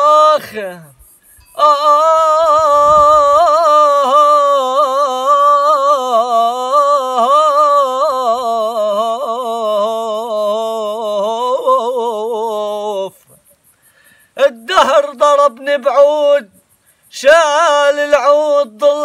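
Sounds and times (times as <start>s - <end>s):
man singing long ornamented note: 0.0s - 13.3s, 14.4s - 16.5s, 17.2s - 19.0s.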